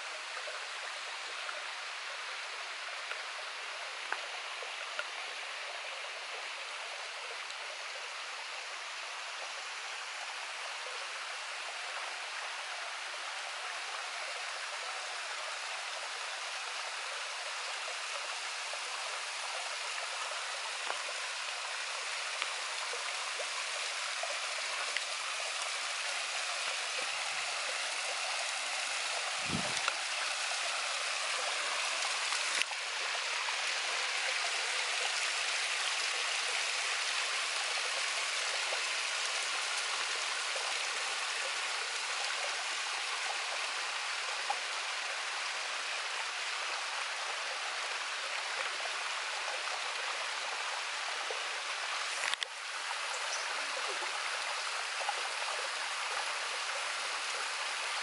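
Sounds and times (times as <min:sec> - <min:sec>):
small waterfall trickling: 0:00.0 - 0:58.0.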